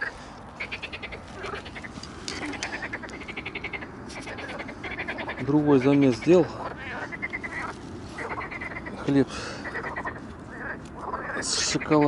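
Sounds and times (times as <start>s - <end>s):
frogs calling with rattling trills: 0.0s - 12.0s.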